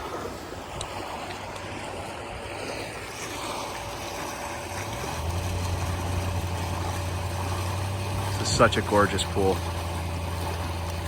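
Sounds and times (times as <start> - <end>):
pool pump humming: 0.0 - 11.0
rush of moving water: 0.0 - 11.0.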